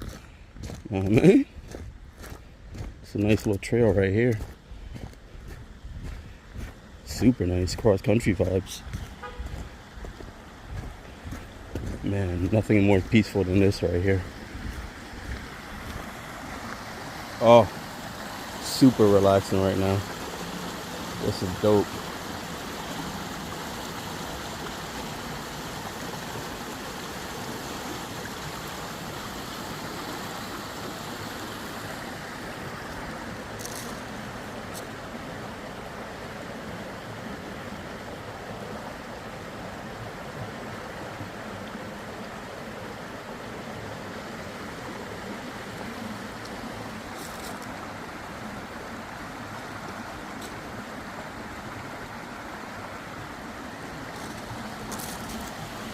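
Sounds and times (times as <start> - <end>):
running water: 0.0 - 55.9.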